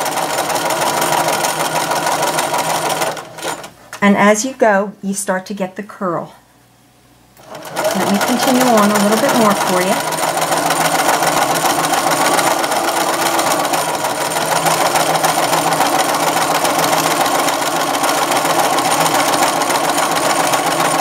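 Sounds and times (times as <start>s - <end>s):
sewing machine running: 0.0s - 3.7s, 7.4s - 21.0s.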